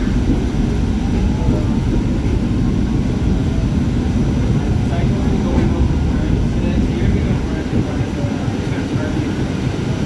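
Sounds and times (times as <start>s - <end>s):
subway car wheels rumbling: 0.0s - 10.0s.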